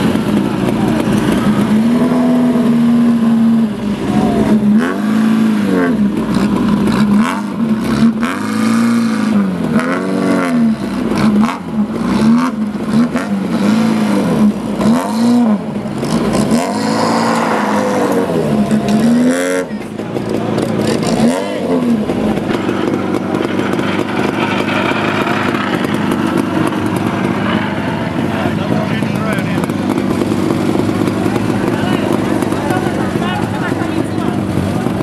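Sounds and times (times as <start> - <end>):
sports car engine revving: 0.0 - 35.0
tyres over loose dirt: 0.0 - 35.0.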